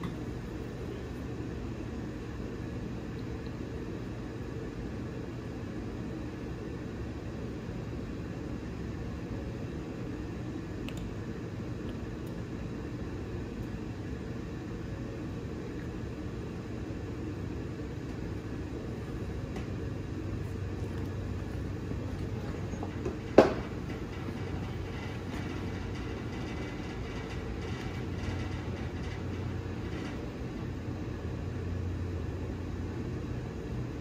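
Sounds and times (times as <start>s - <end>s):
heater low rumble and hum: 0.0s - 34.0s.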